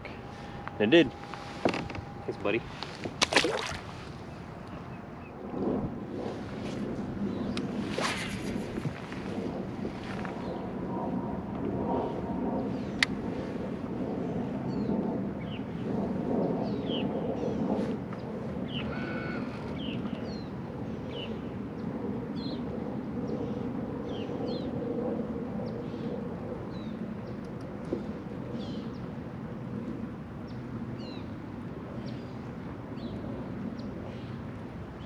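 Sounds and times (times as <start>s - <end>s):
low rumble of wind and water: 0.0s - 35.0s.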